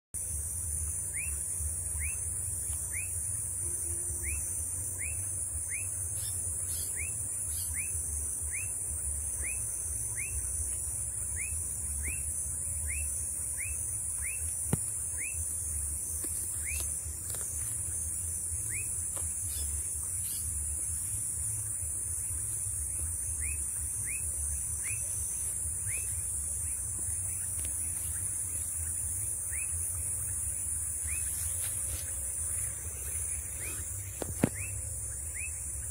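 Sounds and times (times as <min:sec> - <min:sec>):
steady high hiss: 0:00.2 - 0:35.9
bird calling: 0:01.0 - 0:20.9, 0:22.6 - 0:35.9.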